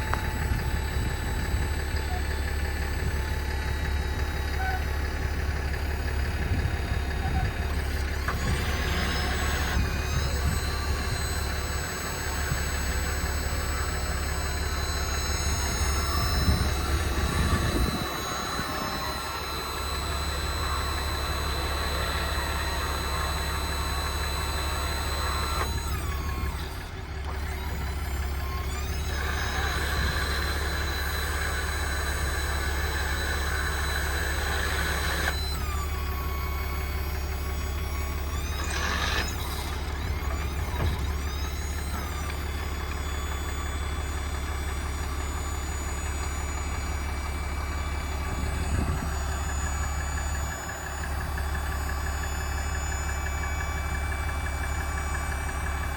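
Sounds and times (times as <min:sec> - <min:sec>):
engine running: 0:00.0 - 0:55.9
high whining tones: 0:07.4 - 0:55.5.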